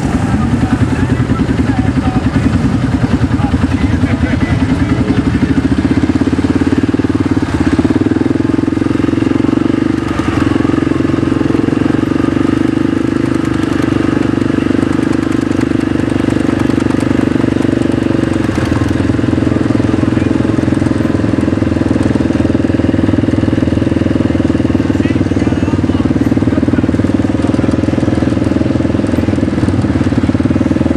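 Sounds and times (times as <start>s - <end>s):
off-road vehicle engine running: 0.0s - 30.9s.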